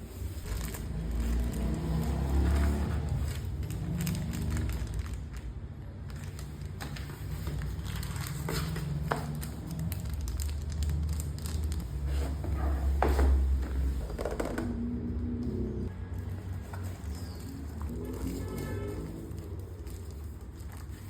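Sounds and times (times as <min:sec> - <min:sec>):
plastic and cardboard crinkling: 0:00.1 - 0:14.8, 0:16.1 - 0:21.0.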